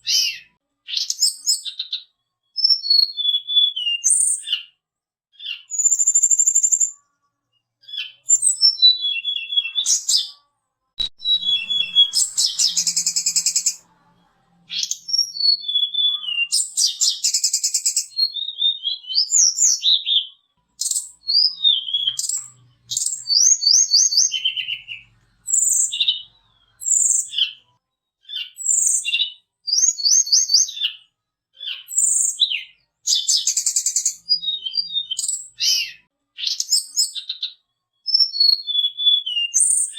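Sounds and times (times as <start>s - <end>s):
bird singing whistles and trills: 0.0s - 4.7s, 5.4s - 7.0s, 7.8s - 10.3s, 11.0s - 13.8s, 14.7s - 27.6s, 28.2s - 39.9s.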